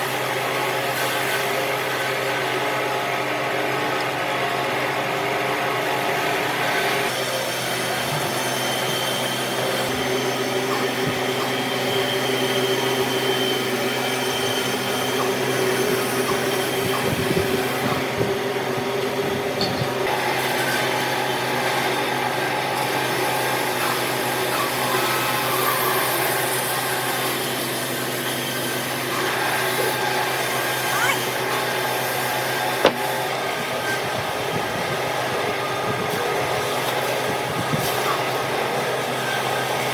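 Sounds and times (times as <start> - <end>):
electric power tool whining: 0.0 - 39.9.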